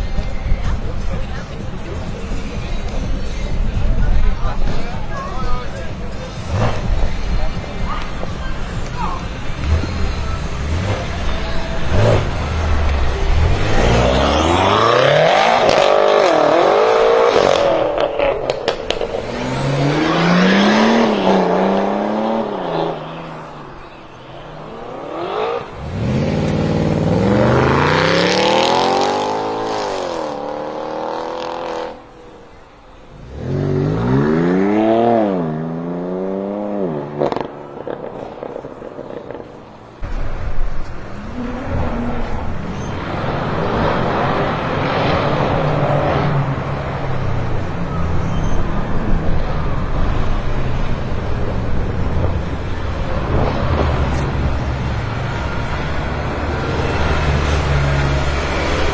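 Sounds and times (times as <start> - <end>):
exhaust crackles: 0.0 - 32.2, 37.0 - 58.9
car engine accelerating hard: 0.2 - 23.8, 24.4 - 32.2, 33.1 - 39.4, 40.0 - 58.9.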